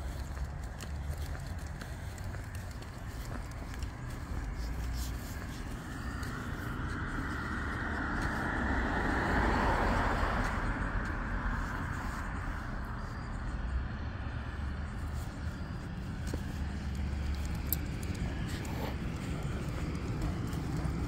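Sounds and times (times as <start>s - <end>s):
background traffic rumble: 0.0s - 21.0s
car passing: 0.0s - 21.0s.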